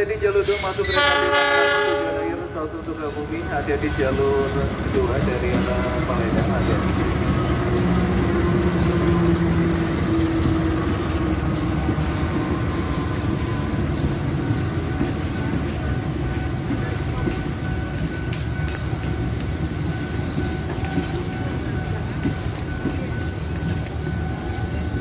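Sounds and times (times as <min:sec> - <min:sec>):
electric train wheels rumbling: 0:00.0 - 0:25.0.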